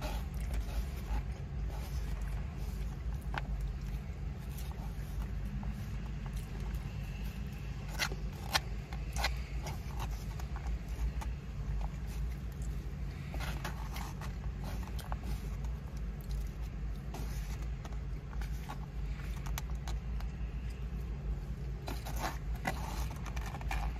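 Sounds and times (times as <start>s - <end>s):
plastic fork scraping foam container: 0.0s - 20.8s, 21.6s - 23.9s.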